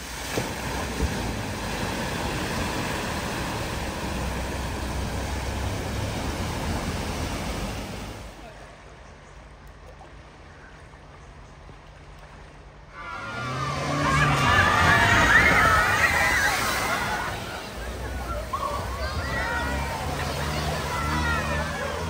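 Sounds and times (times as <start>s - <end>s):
water splashing rush: 0.0s - 9.0s, 9.7s - 22.0s
low vehicle rumble: 0.0s - 22.0s.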